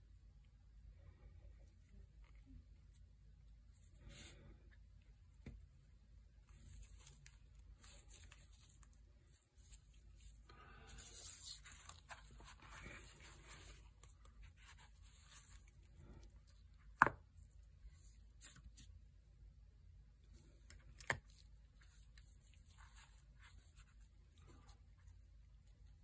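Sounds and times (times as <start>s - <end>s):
gloves and fabric rustling: 2.0s - 19.3s, 21.2s - 26.0s.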